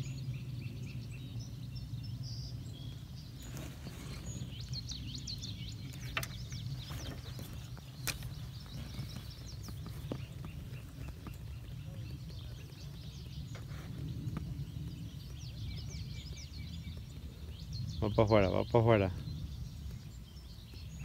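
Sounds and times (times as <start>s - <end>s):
birds chirping: 0.0s - 21.0s
low rumble: 4.1s - 21.0s.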